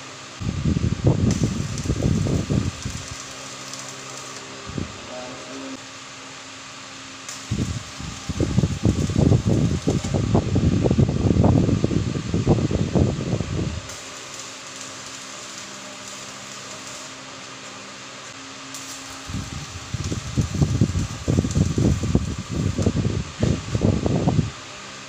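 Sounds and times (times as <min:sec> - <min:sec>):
arc welding crackle: 0:00.0 - 0:25.0
fan-like hum: 0:00.0 - 0:25.0.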